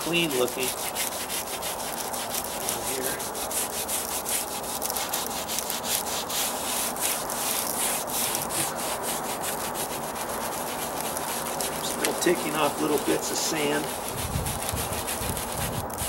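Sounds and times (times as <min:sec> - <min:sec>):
brush scrubbing rough stucco: 0:00.0 - 0:16.0.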